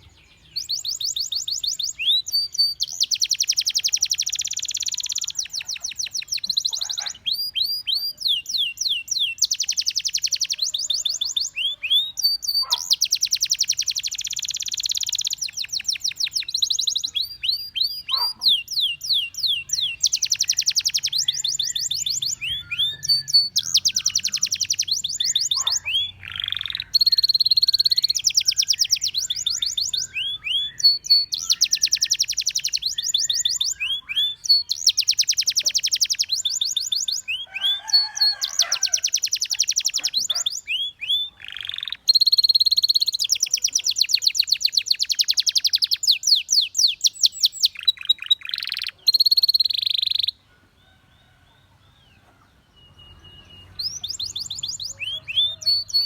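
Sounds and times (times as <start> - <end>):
canary singing in trills: 0.0 - 56.0.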